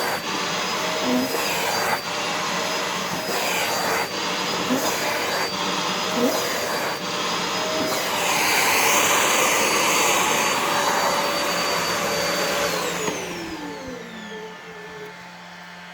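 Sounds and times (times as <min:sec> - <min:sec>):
vacuum cleaner running: 0:00.0 - 0:15.9
vacuum motor spinning down: 0:00.0 - 0:15.9.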